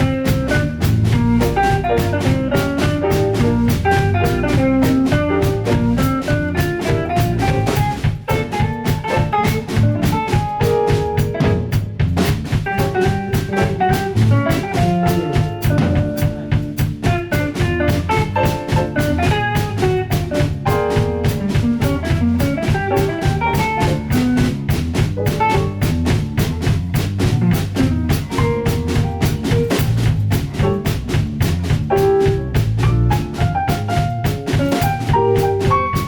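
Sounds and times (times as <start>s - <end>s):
drum kit beat: 0.0s - 36.0s
jazz-pop band music: 0.0s - 36.0s.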